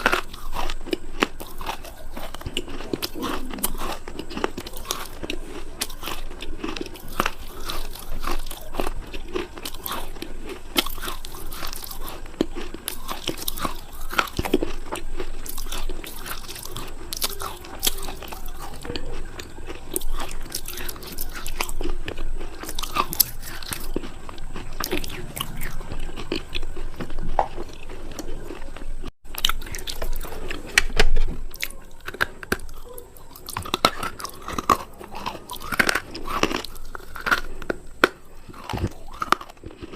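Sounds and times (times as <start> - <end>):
biting and chewing crunchy food: 0.0 - 39.9.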